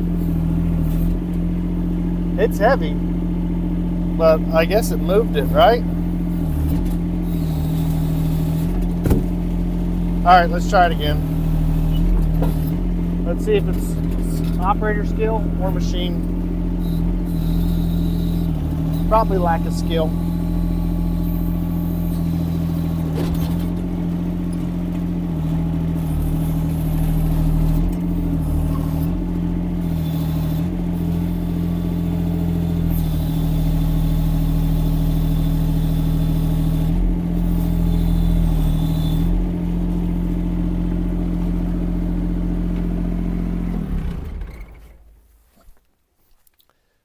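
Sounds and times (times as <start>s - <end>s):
excavator diesel engine under load: 0.0s - 45.2s.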